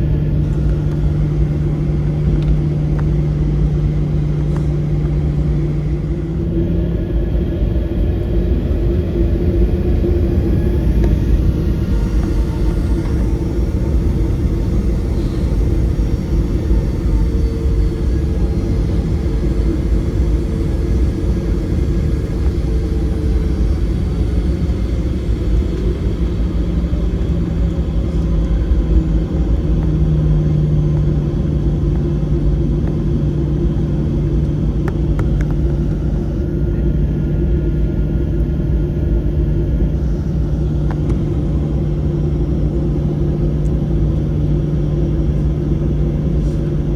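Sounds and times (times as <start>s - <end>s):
jet engine cabin rumble: 0.0s - 46.9s
steady hum: 0.0s - 46.9s.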